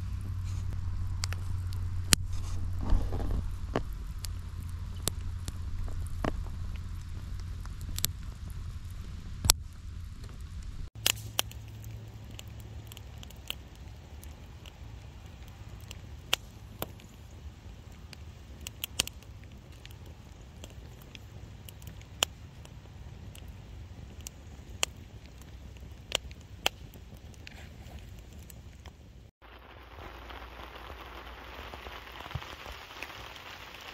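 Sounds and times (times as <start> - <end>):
campfire crackling and popping: 0.0 - 33.9
low fire rumble: 0.0 - 33.9.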